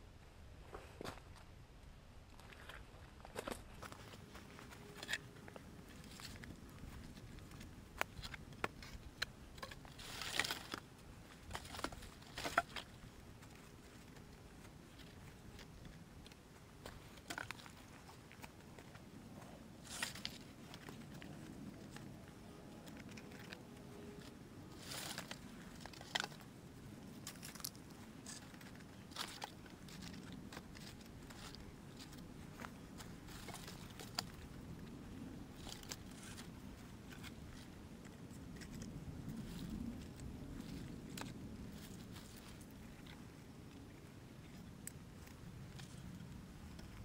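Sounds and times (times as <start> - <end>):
branches rustling and scraping: 2.3 - 47.0.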